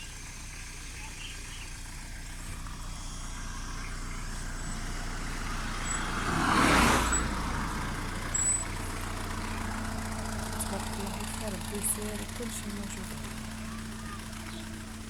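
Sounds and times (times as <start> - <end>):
car engine and road noise: 0.0 - 15.0
vehicle passing by: 1.9 - 15.0.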